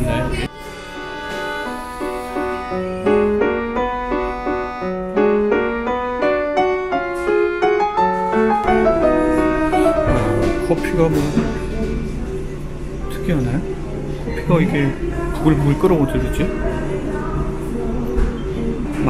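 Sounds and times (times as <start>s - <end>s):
keyboard melody: 0.0s - 17.3s.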